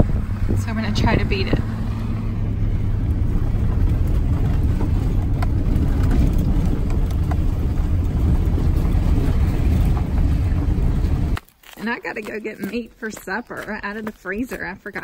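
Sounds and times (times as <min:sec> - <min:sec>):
truck engine and tyres rumbling: 0:00.0 - 0:15.0.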